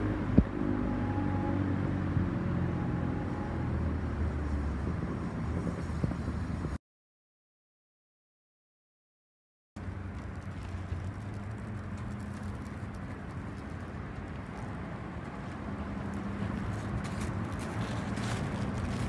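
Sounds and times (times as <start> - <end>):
city traffic: 0.0 - 6.8, 9.8 - 19.0.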